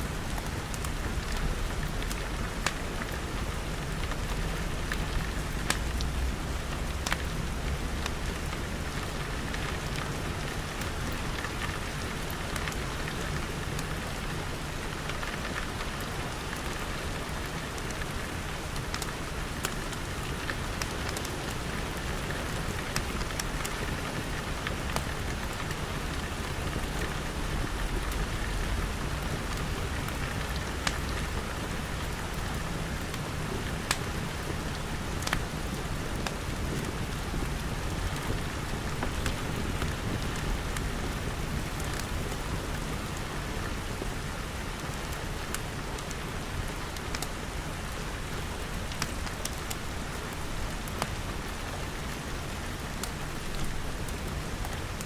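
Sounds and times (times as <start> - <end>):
rain pattering on glass: 0.1 - 55.0
wood fire crackling and popping: 0.3 - 55.0.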